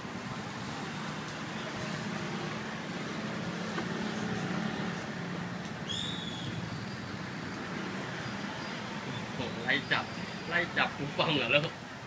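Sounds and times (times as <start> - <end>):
background hum of busy place: 0.0 - 12.0.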